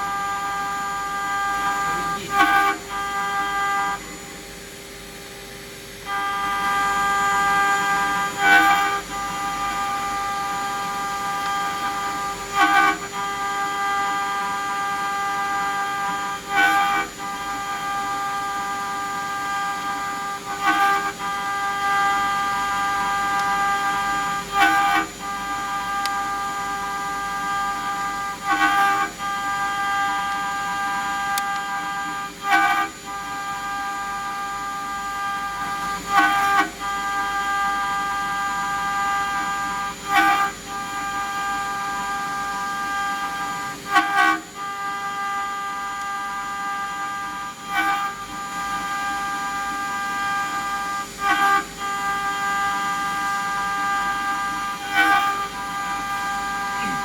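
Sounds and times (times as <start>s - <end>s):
engraving machine motor whine: 0.0s - 57.0s.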